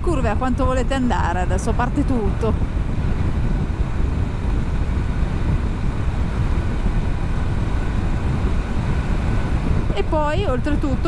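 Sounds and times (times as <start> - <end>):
faint motorcycle engine drone: 0.0 - 11.0
wind buffeting microphone: 0.0 - 11.0.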